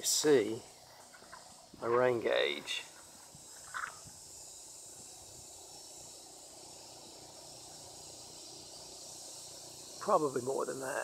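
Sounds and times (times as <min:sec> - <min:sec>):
insects chorus hissing: 0:00.0 - 0:11.0
short insect chirp: 0:00.0 - 0:11.0.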